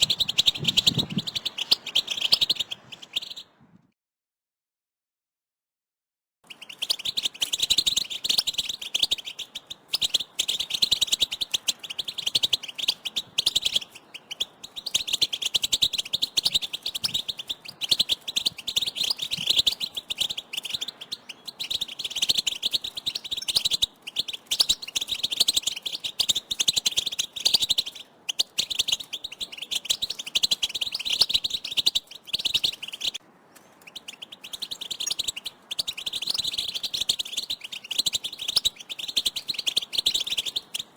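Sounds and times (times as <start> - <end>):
goldfinches twittering: 0.0 - 3.5, 6.5 - 40.9.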